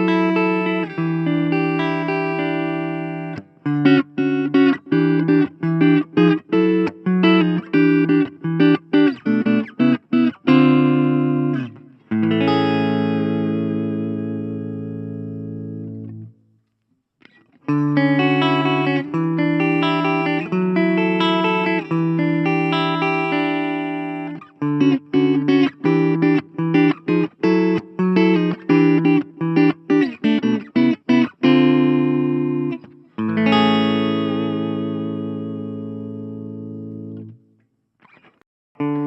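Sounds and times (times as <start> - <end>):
clean electric guitar chords: 0.0 - 16.4, 17.6 - 37.5, 38.8 - 39.0.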